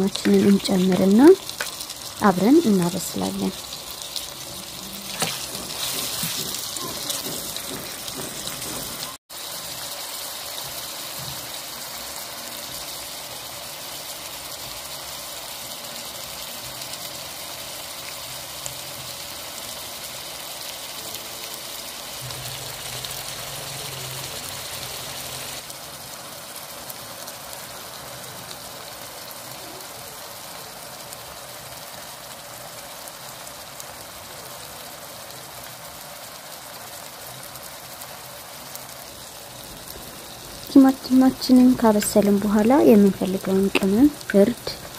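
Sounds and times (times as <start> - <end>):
vegetables sizzling in hot oil: 0.0 - 44.9.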